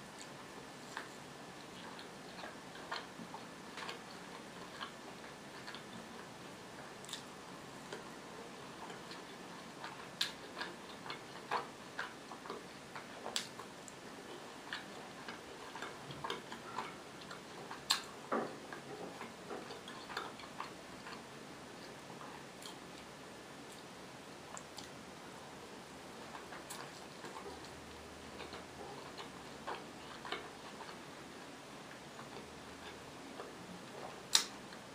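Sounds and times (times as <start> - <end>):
person chewing crispy food: 0.0 - 25.1, 26.0 - 34.9.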